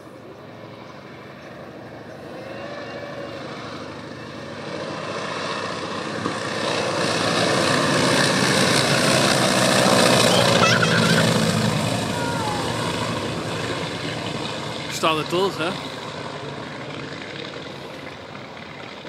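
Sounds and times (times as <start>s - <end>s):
aircraft engines droning: 0.0s - 19.0s.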